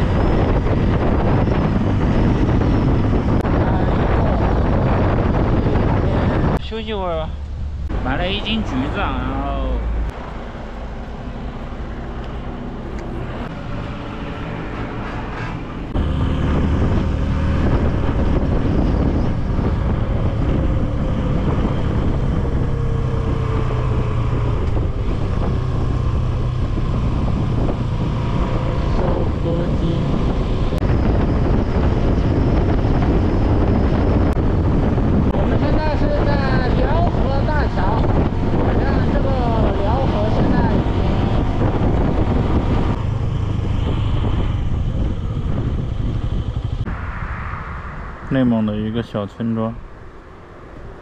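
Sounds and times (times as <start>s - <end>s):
wind noise on microphone: 0.0s - 10.4s, 11.4s - 51.0s.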